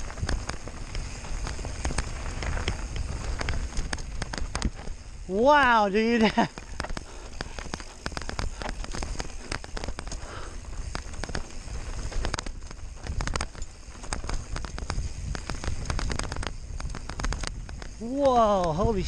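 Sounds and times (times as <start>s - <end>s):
bike rattling clicks and knocks: 0.0s - 19.0s
wind rumble on microphone: 0.0s - 19.0s.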